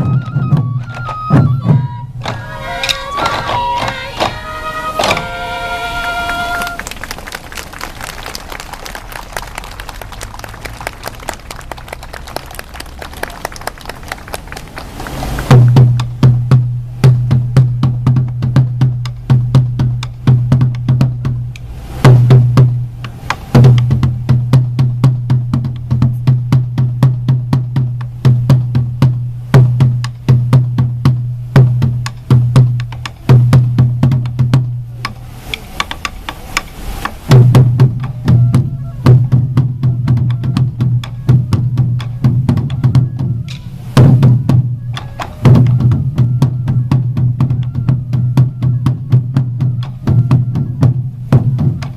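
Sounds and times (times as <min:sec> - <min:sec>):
taiko drums beating: 0:00.0 - 0:06.9, 0:10.2 - 0:51.9.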